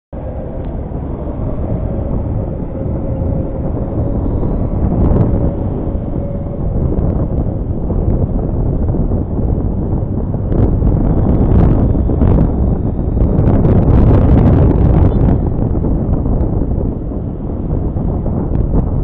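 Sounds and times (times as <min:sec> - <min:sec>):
road noise: 0:00.1 - 0:19.0
wind rushing over microphone: 0:00.1 - 0:19.0
scooter engine drone: 0:00.2 - 0:19.0.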